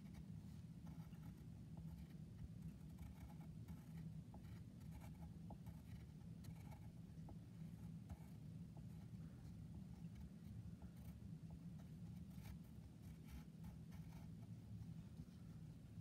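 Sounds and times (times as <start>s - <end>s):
low room hum: 0.0s - 16.0s
drawing tip scratching paper: 0.8s - 7.0s, 7.7s - 14.5s.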